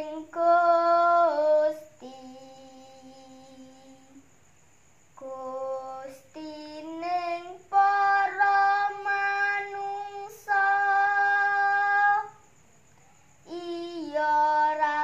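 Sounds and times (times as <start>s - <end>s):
young woman singing: 0.0s - 4.2s, 5.2s - 12.4s, 13.4s - 15.0s.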